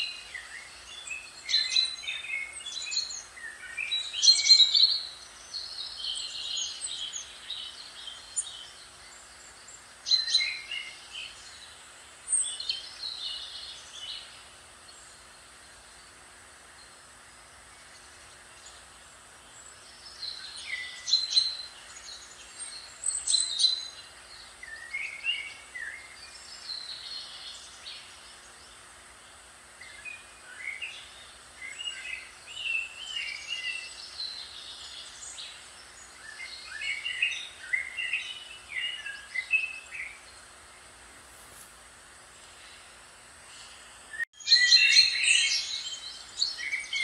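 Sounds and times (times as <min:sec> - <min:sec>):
songbird chirping: 0:00.0 - 0:47.0
steady soft hiss: 0:00.0 - 0:47.0.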